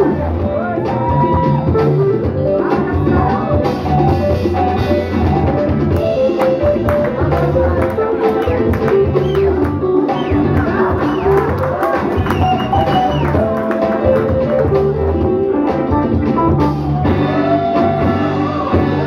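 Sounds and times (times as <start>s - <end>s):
breakbeat music over loudspeakers: 0.0s - 19.0s.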